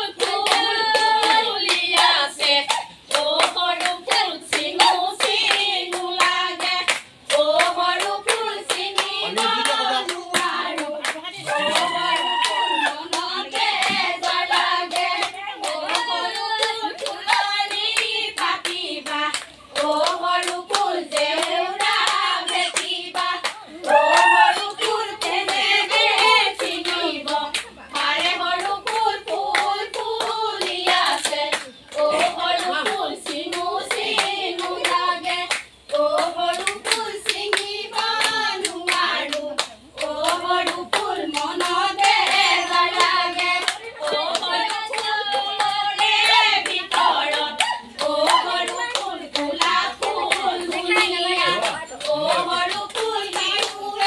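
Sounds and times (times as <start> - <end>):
women singing folk song: 0.0 - 54.0
hand claps: 0.1 - 54.0.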